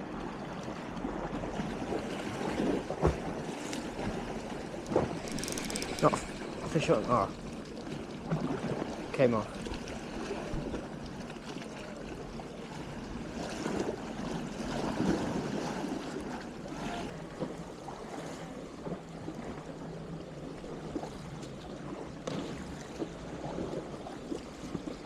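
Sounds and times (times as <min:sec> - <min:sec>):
sea water lapping at shore: 0:00.0 - 0:25.0.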